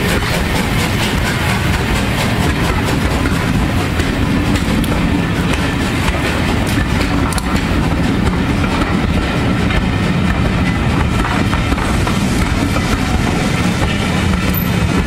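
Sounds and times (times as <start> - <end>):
train coaches rolling past: 0.0 - 15.0
wheels clicking over rail joints: 0.0 - 15.0.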